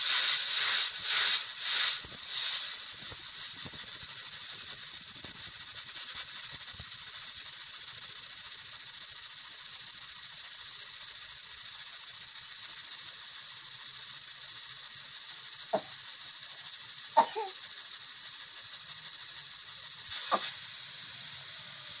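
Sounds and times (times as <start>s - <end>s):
pressure cooker hissing steam: 0.0s - 22.0s.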